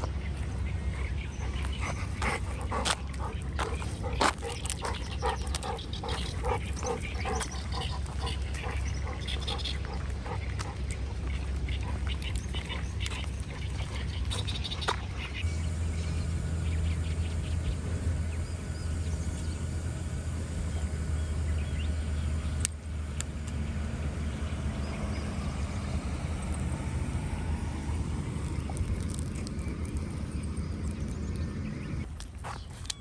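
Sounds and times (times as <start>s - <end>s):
motor humming: 0.0s - 33.0s.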